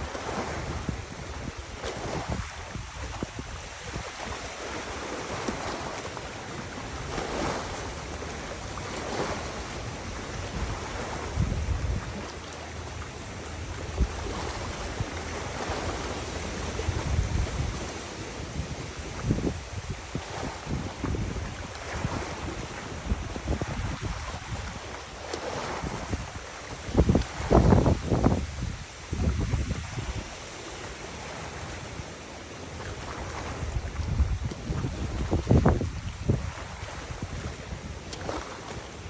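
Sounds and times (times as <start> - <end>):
wind buffeting microphone: 0.0 - 32.2, 32.8 - 39.0
river water rushing: 0.0 - 39.0.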